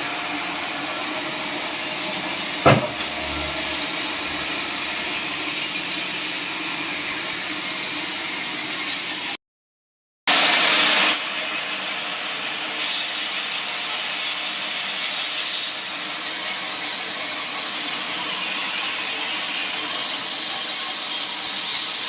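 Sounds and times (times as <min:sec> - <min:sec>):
sawmill saw running: 0:00.0 - 0:09.3, 0:10.3 - 0:22.0.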